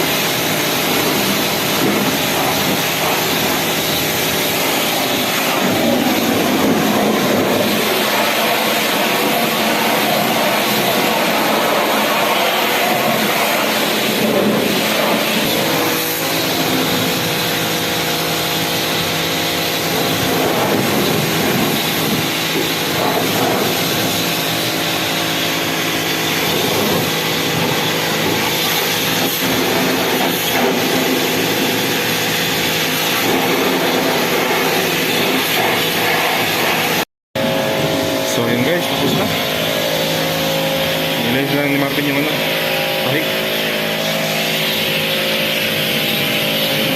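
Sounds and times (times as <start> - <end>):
machine running loudly: 0.0 - 46.9.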